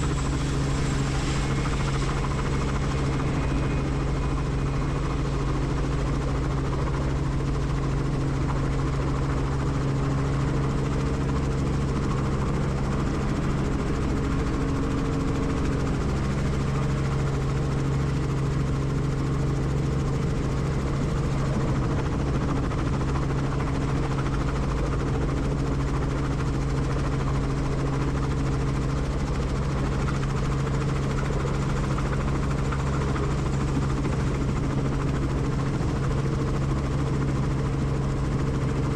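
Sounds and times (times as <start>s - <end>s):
helicopter rotor and engine hum: 0.0s - 38.9s.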